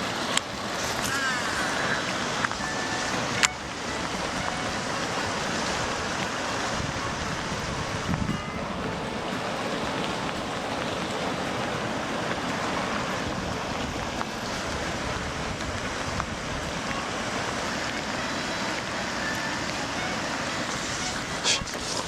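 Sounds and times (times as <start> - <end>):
wind on microphone: 0.0 - 18.2
flowing water rushing: 0.0 - 22.0.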